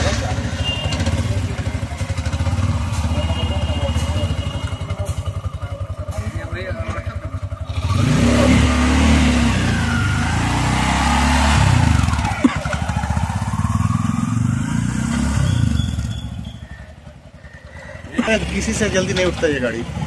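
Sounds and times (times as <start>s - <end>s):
three-wheeler engine pulling away: 0.0s - 20.0s.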